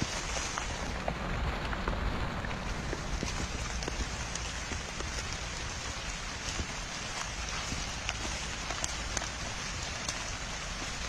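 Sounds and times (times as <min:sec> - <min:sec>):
rain falling on water: 0:00.0 - 0:11.0.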